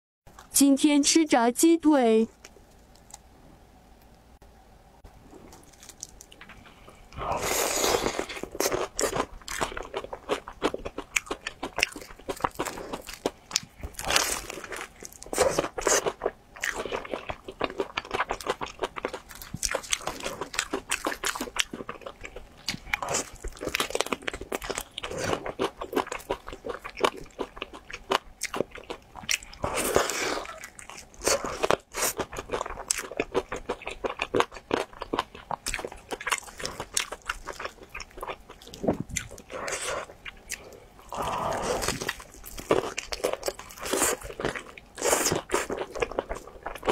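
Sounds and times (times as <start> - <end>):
crunchy bites and chewing: 5.3 - 46.9.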